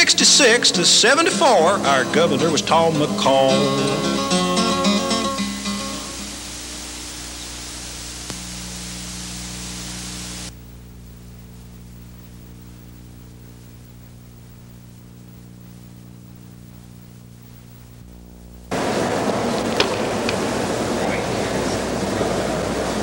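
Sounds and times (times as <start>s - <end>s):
film soundtrack hiss: 0.0s - 23.0s
mains hum: 0.0s - 23.0s.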